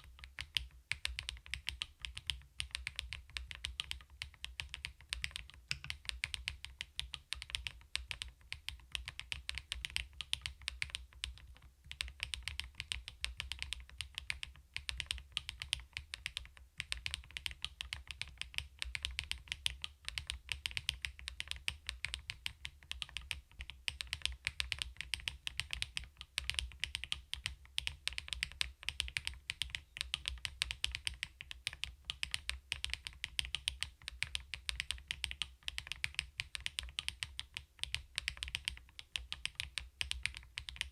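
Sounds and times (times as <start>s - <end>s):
mechanical keyboard typing: 0.2s - 40.9s.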